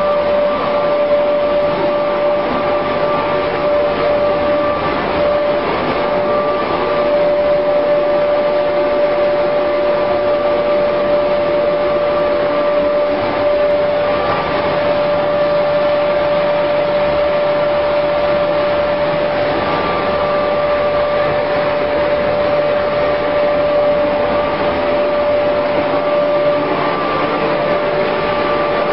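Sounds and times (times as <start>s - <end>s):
higher machine tone: 0.0s - 28.9s
machinery droning: 0.0s - 28.9s.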